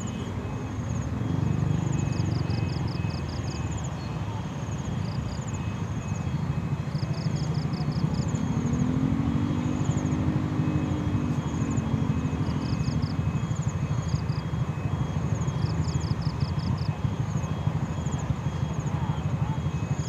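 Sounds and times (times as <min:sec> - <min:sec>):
crossing signal two-tone beeps: 0:00.0 - 0:08.6, 0:09.6 - 0:20.0
faint engine tone sweeping: 0:00.0 - 0:20.0.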